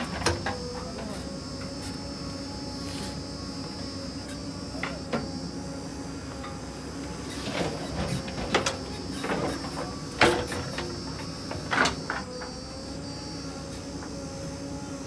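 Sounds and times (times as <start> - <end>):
diesel engine running: 0.0 - 14.7.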